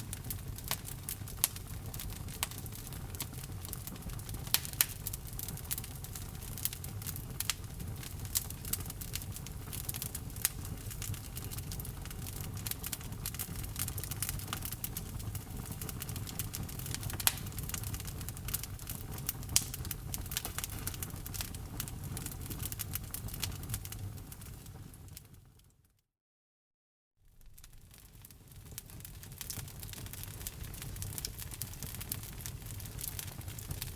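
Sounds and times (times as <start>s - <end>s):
wood crackling in a fireplace: 0.0s - 25.9s, 27.2s - 33.9s.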